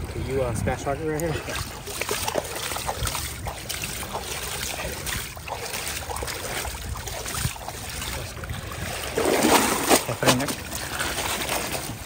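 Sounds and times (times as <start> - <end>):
wind on microphone: 0.0 - 10.1
water lapping and splashing: 0.0 - 12.0.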